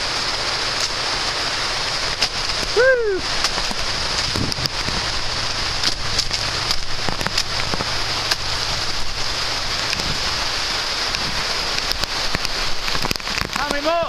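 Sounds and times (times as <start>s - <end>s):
low rumble: 0.0s - 13.5s
heavy rain falling: 0.0s - 14.0s.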